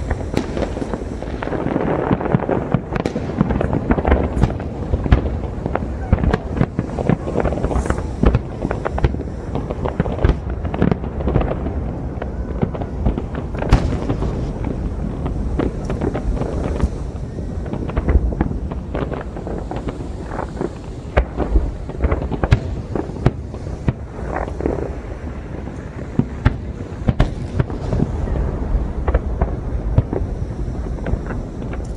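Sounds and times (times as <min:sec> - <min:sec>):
continuous rumble: 0:00.0 - 0:31.9
fireworks bangs and crackling: 0:00.0 - 0:31.9.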